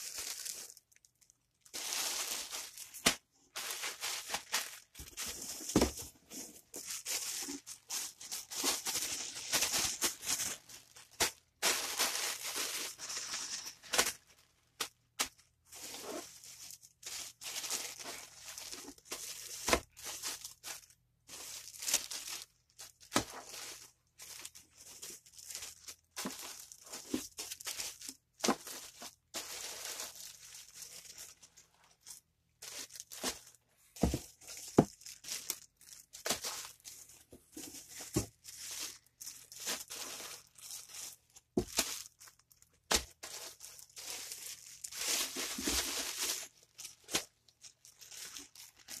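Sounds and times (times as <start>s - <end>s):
plastic bags crinkling: 0.0s - 49.0s.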